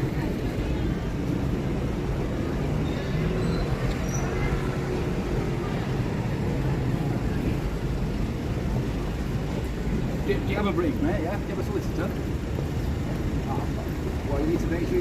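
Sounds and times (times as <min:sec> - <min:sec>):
faint voices: 0:00.0 - 0:15.0
traffic rumble: 0:00.0 - 0:15.0.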